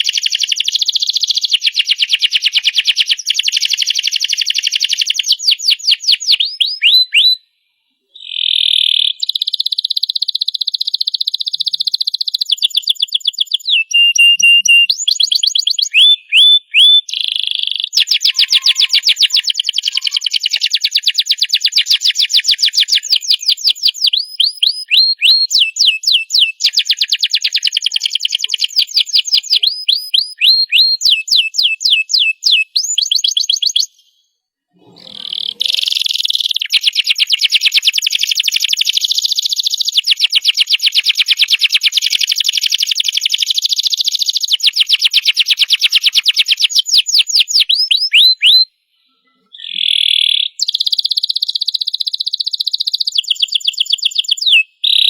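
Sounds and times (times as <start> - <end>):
canary singing trills: 0.0 - 7.5, 8.1 - 34.2, 34.8 - 55.0.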